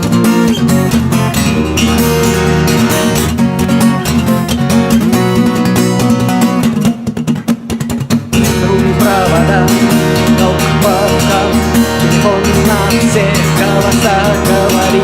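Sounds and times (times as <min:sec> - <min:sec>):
band with bass and lead melody: 0:00.0 - 0:15.0
strummed acoustic guitar chords: 0:00.0 - 0:15.0.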